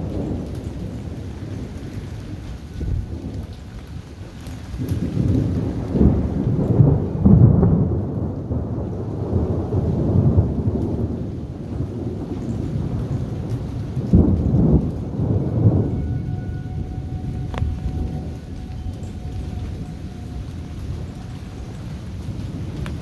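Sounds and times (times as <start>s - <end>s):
rain hissing: 0.0s - 23.0s
thunder rumbling: 0.0s - 23.0s.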